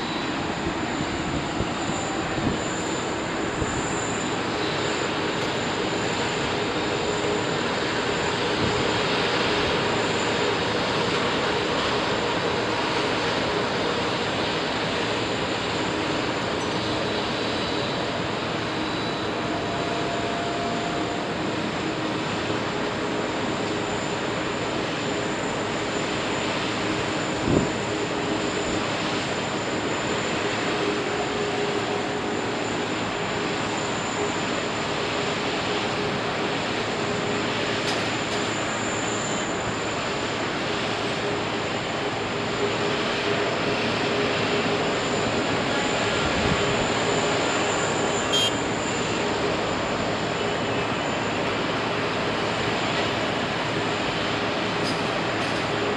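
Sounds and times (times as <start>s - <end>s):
jet engines roaring: 0.0s - 55.9s.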